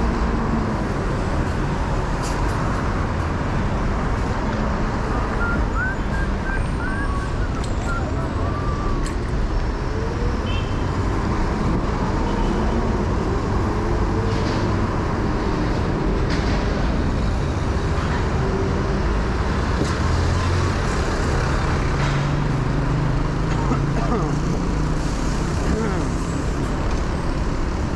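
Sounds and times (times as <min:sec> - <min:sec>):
vehicle engines: 0:00.0 - 0:27.9.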